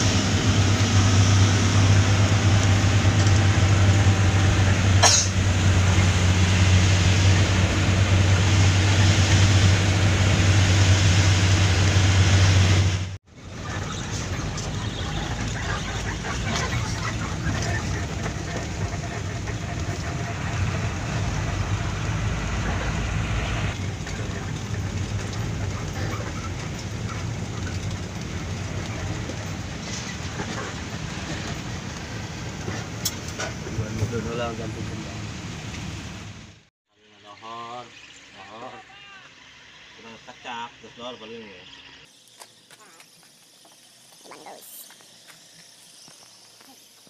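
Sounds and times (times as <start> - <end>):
truck engine drone: 0.0 - 47.0.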